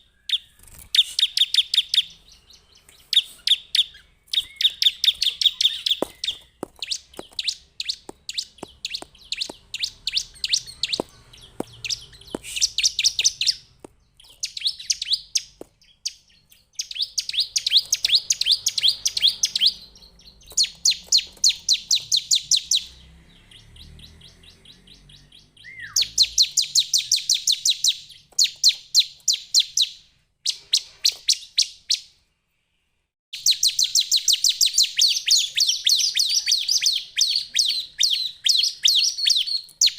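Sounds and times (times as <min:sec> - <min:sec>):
bird singing high sharp notes: 0:00.0 - 0:32.2.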